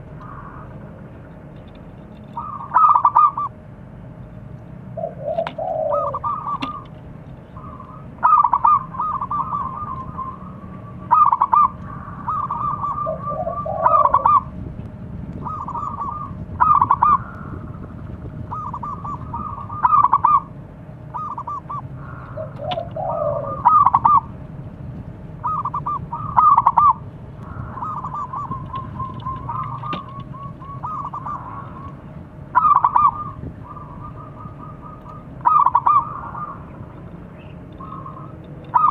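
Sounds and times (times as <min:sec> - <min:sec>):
dove cooing: 0:02.2 - 0:03.6, 0:04.9 - 0:14.6, 0:15.4 - 0:24.4, 0:25.4 - 0:38.9.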